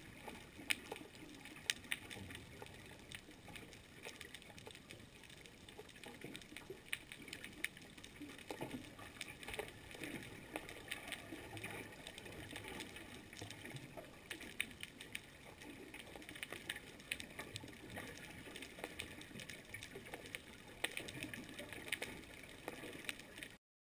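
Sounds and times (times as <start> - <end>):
sharp clicks and crackles: 0.0 - 23.6.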